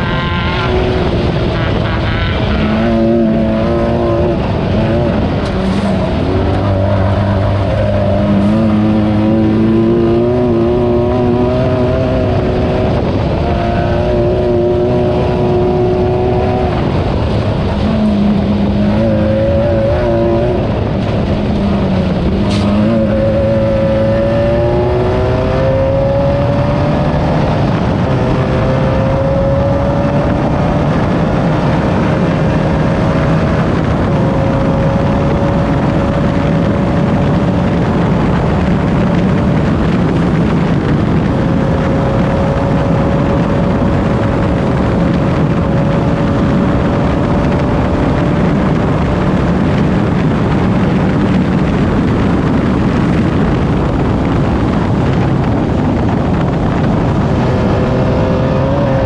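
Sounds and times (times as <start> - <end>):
loud rushing noise: 0.0 - 59.0
race car engine running hard: 0.0 - 59.0.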